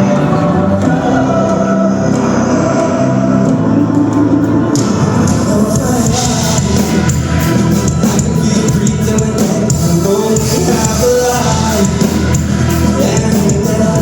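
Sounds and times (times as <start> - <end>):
rock song: 0.0 - 14.0.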